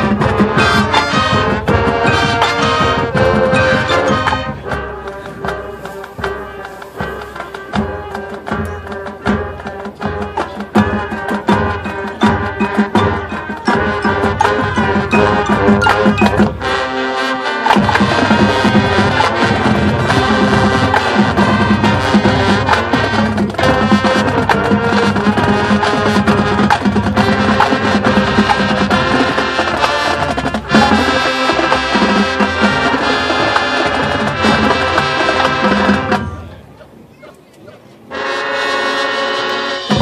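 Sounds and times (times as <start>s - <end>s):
marching band playing: 0.0s - 37.1s, 38.0s - 40.0s.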